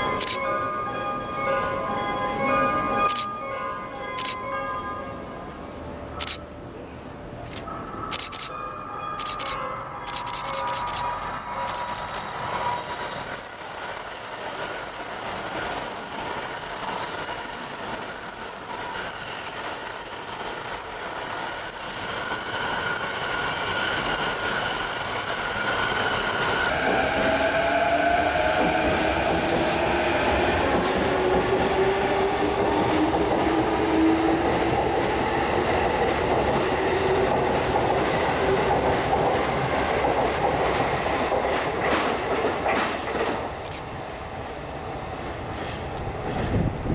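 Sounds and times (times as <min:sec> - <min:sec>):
electric train running on rails: 0:00.0 - 0:46.9.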